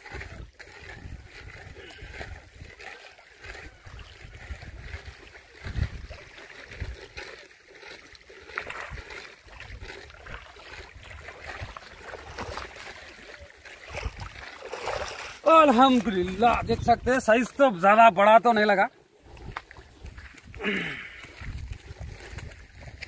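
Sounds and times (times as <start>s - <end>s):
wind rumbling on microphone: 0.0s - 7.3s, 8.6s - 12.9s, 13.8s - 17.4s, 19.2s - 23.0s
water splashing: 0.0s - 23.0s.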